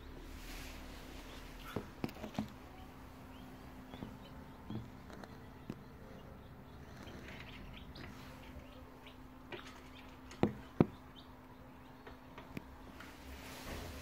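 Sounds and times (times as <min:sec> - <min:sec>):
chicks peeping: 0:00.0 - 0:13.8.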